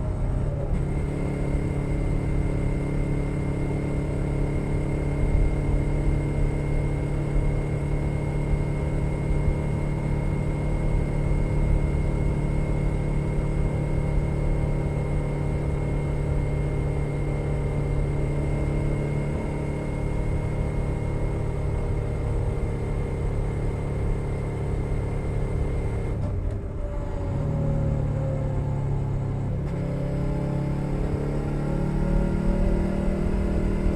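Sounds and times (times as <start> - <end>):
motorcycle engine cruising: 0.0 - 26.2, 29.1 - 33.9.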